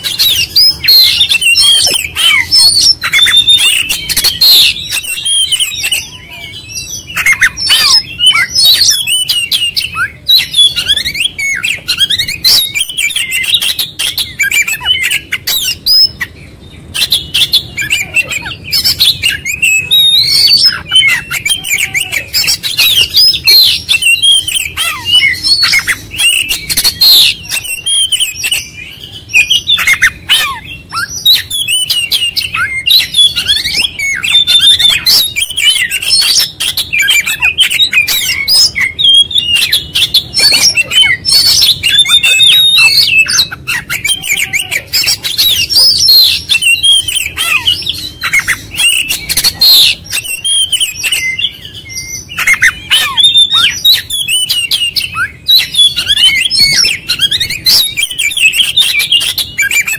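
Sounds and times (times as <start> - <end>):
bird singing whistled phrases: 0.0 - 59.9.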